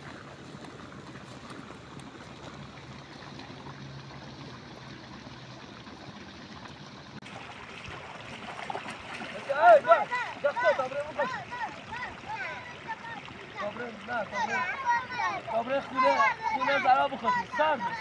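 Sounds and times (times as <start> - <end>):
water trickling in a stream: 0.0 - 18.0.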